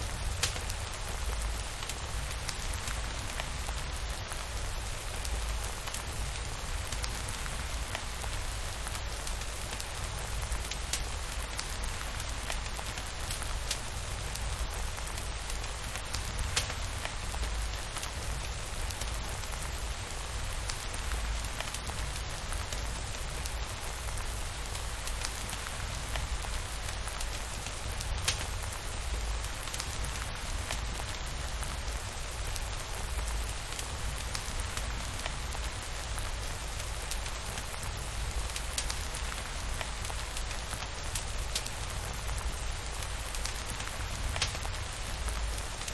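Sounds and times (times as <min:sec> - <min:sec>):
steady rainfall: 0:00.0 - 0:45.9
wood fire crackling: 0:00.0 - 0:45.9.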